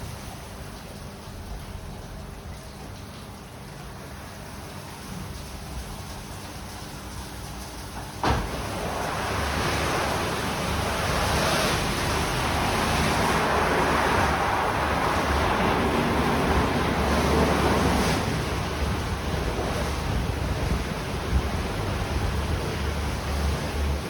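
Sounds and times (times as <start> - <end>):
car wash machine rumble: 0.0 - 24.0
water spraying over car: 0.0 - 24.0.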